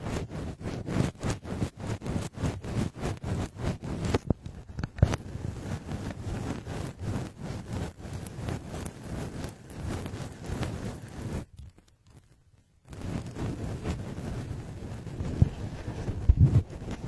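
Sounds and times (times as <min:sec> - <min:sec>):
brushing strokes across microphone: 0:00.0 - 0:17.0.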